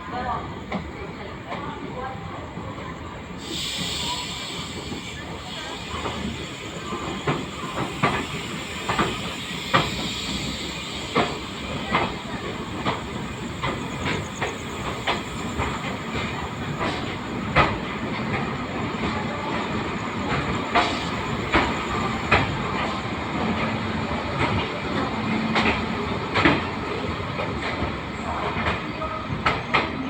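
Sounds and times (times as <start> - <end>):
train coach rumbling on track: 0.0 - 30.0.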